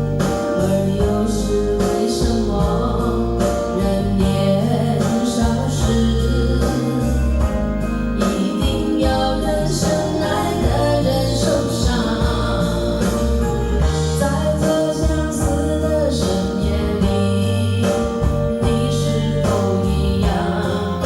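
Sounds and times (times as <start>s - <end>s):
backing track with bass and beat: 0.0s - 21.0s
person singing karaoke: 0.0s - 21.0s.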